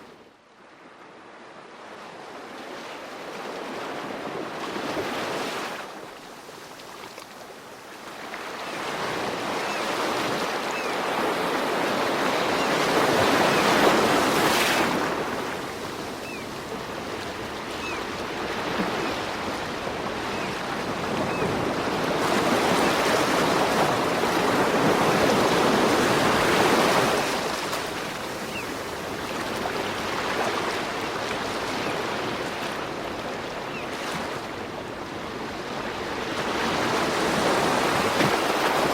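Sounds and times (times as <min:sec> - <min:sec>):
ocean waves breaking: 0:00.8 - 0:38.9.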